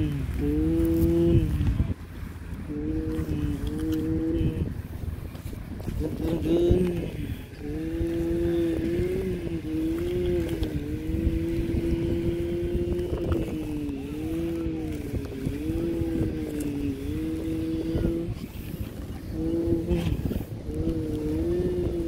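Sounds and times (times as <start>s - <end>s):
person humming engine noise: 0.0s - 22.0s.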